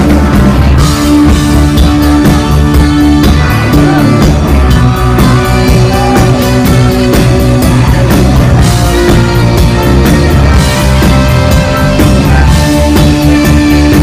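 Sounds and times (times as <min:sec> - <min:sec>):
rock band playing: 0:00.0 - 0:14.0
saxophone lead: 0:00.6 - 0:14.0.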